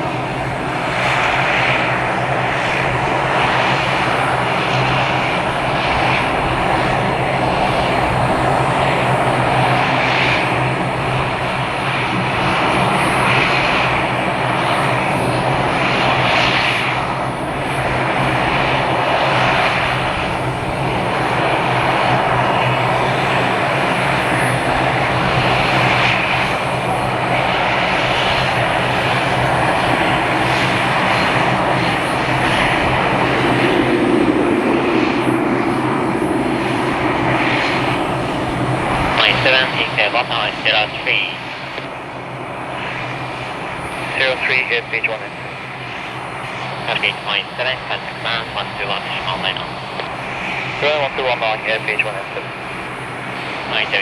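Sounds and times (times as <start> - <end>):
airliner engines droning: 0.0 - 54.0.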